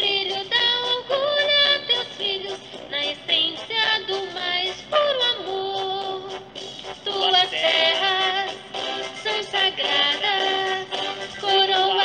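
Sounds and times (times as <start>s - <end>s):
instrumental accompaniment: 0.0s - 12.0s
person singing with vibrato: 0.0s - 12.0s.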